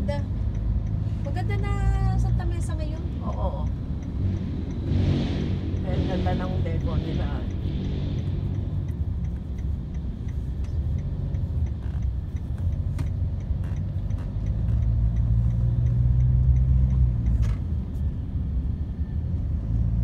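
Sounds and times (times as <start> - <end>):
light ticking: 0.0 - 4.9, 5.7 - 20.0
car engine and road rumble: 0.0 - 20.0.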